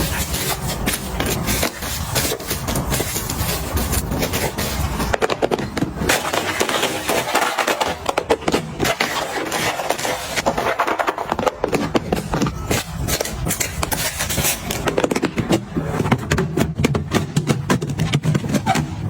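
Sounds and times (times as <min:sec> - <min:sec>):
objects scraping: 0:00.0 - 0:16.2.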